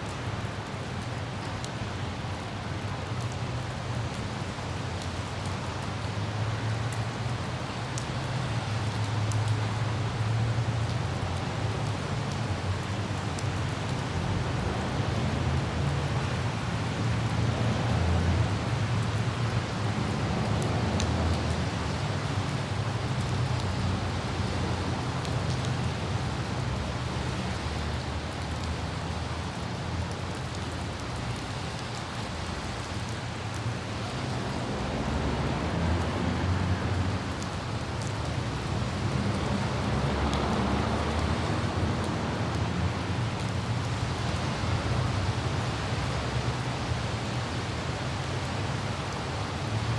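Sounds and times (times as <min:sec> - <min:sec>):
car and road noise: 0:00.0 - 0:49.9
city traffic rumble: 0:00.0 - 0:49.9
light rain hissing: 0:00.0 - 0:49.9
wind: 0:00.0 - 0:49.9
droplet ticks: 0:06.8 - 0:49.9.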